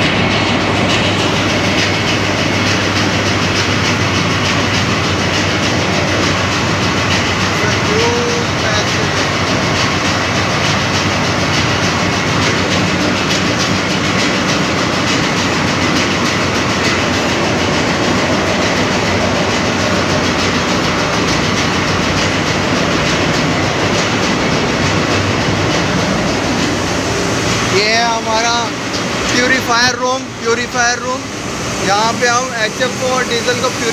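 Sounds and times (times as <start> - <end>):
diesel engines clattering: 0.0 - 33.9.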